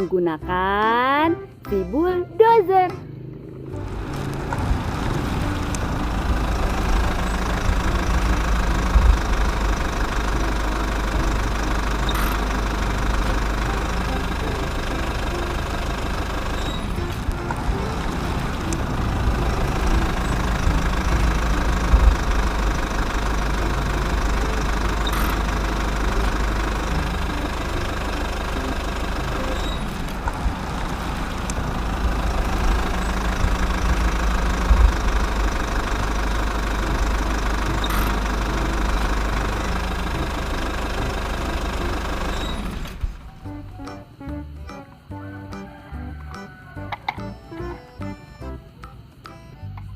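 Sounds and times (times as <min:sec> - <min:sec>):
bulldozer engine rumbling: 0:00.0 - 0:49.9.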